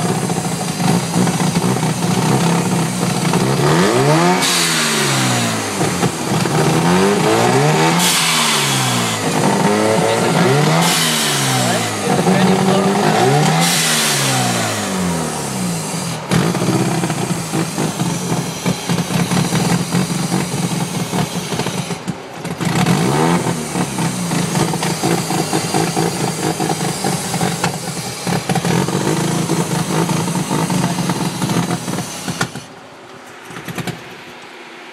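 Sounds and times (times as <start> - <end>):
rotary engine revving: 0.0 - 32.8.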